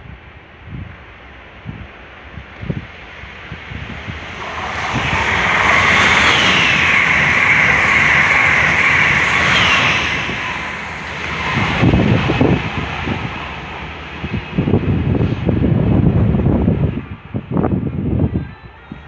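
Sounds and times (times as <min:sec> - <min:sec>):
high-speed train rushing past: 0:00.0 - 0:19.0.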